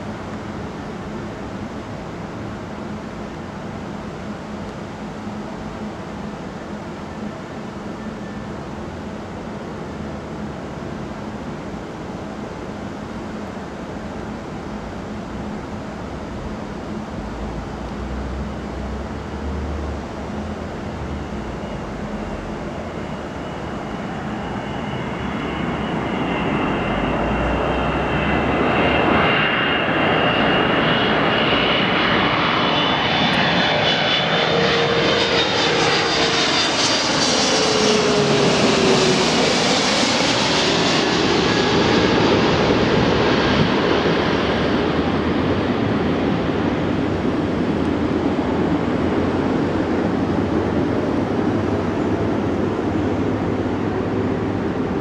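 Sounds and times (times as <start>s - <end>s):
jet flying low overhead: 0.0s - 55.0s.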